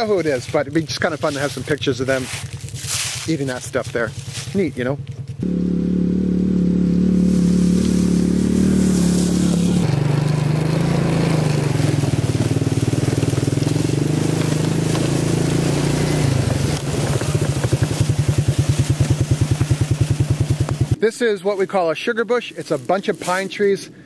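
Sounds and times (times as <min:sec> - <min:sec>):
quad bike engine running: 0:00.0 - 0:21.0.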